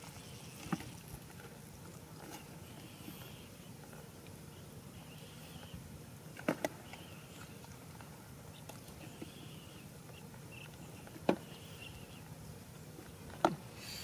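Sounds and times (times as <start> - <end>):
outdoor background: 0.0 - 14.0.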